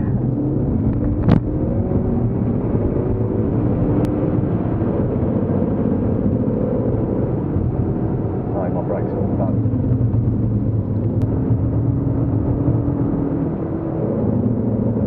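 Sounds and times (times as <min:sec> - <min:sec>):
car engine from inside cabin: 0:00.0 - 0:15.0
tyre and road noise: 0:00.0 - 0:15.0.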